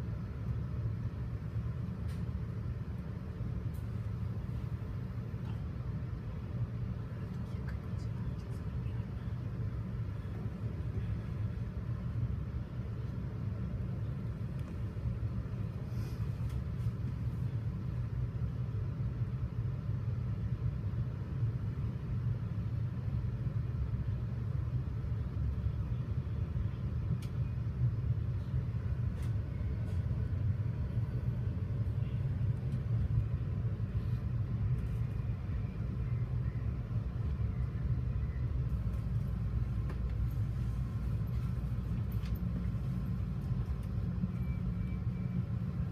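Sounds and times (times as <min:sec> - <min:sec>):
train coach rumbling on track: 0:00.0 - 0:45.9.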